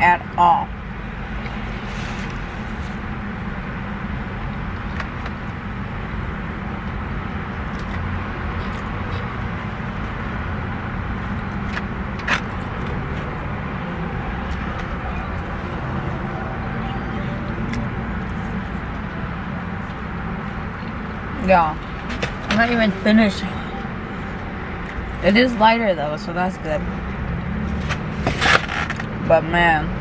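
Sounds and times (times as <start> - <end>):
car running from inside cabin: 0.0 - 30.0.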